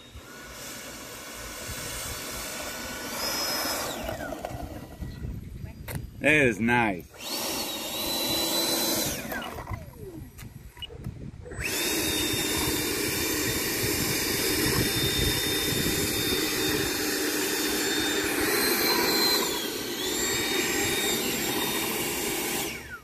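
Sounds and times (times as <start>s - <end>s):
electric ducted fan whine: 0.0s - 23.0s.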